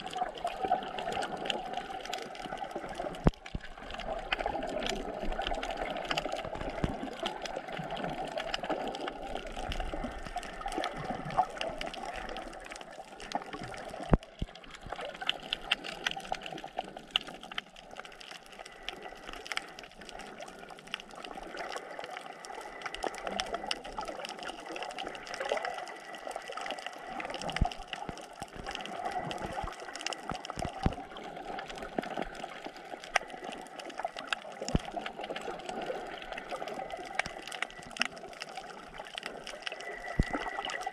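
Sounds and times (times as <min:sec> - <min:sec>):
fine underwater crackling: 0:00.0 - 0:40.9
muffled underwater water wash: 0:00.0 - 0:40.9.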